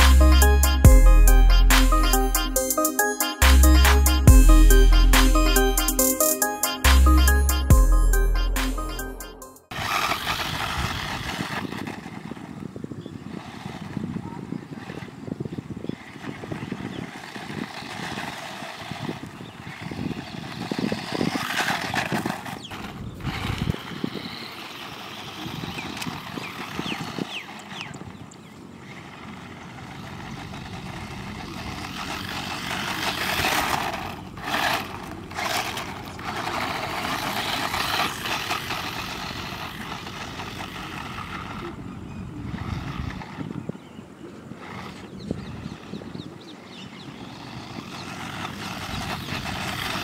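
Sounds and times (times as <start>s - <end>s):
tyres skidding on loose dirt: 0.0s - 0.9s, 9.7s - 50.0s
toy car electric motor whining: 0.0s - 50.0s.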